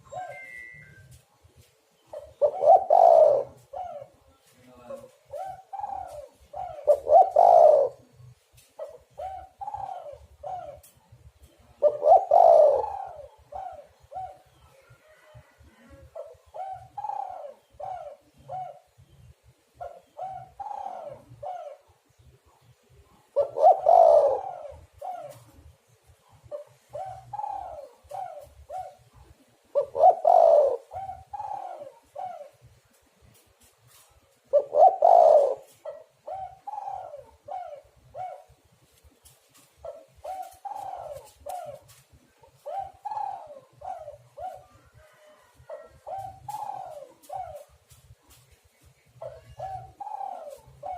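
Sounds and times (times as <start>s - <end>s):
dove cooing: 0.0s - 1.2s, 2.0s - 19.2s, 19.8s - 33.0s, 33.9s - 50.9s.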